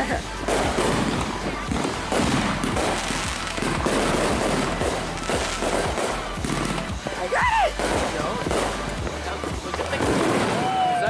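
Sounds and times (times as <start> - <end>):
fireworks bangs and crackles: 0.0 - 11.0
firework whistle: 0.3 - 11.0.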